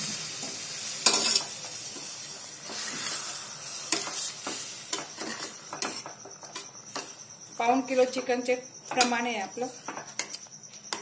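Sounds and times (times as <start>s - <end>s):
sizzling and hissing in pot: 0.0s - 11.0s.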